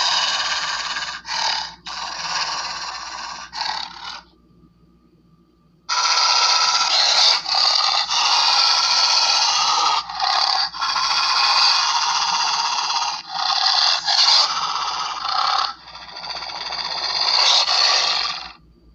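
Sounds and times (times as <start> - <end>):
raspy rattling growls: 0.0 - 4.3, 5.9 - 18.6.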